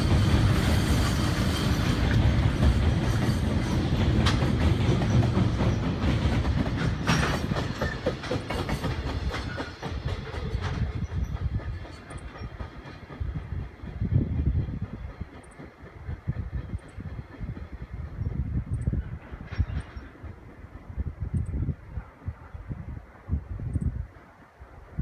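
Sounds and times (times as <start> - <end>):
wheels clicking over rail joints: 0.0 - 21.7
freight train rumbling over bridge: 0.0 - 25.0.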